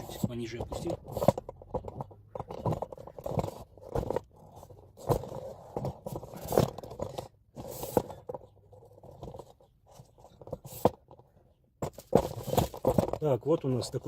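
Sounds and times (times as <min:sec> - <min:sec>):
objects scraping: 0:00.0 - 0:14.0.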